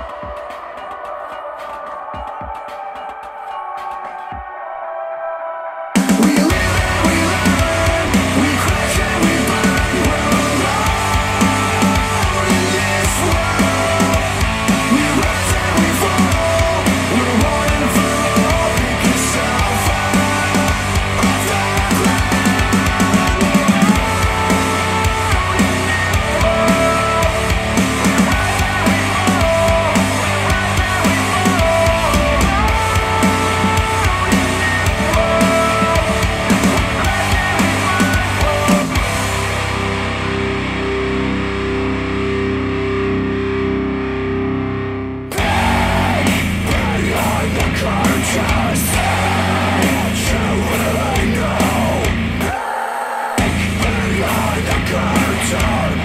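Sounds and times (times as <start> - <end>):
rock song with electric guitars: 6.0 - 56.0.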